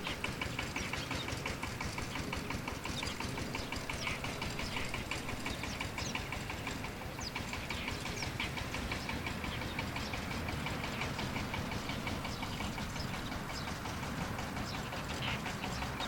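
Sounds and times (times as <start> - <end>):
engine rumbling at low revs: 0.0 - 16.0
high bird chirps: 2.0 - 16.0.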